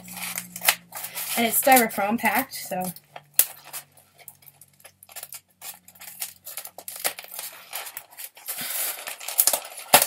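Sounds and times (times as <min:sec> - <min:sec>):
styrofoam packing clicking and scraping: 0:00.0 - 0:10.0.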